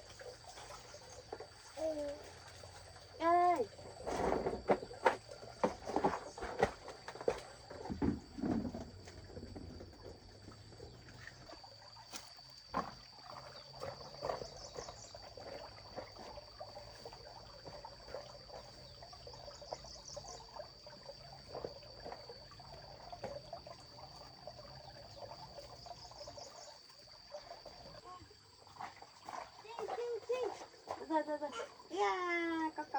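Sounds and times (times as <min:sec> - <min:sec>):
insect chirping trills: 0:00.0 - 0:32.9
insects droning: 0:00.0 - 0:32.9.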